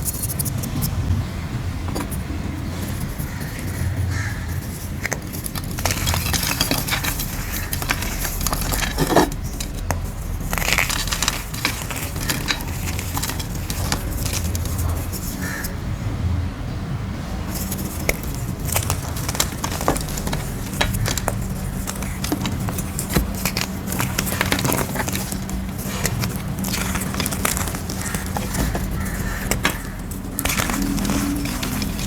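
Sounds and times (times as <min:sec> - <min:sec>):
chalk crunching and crackling: 0:00.0 - 0:01.0, 0:01.9 - 0:15.8, 0:17.5 - 0:32.0.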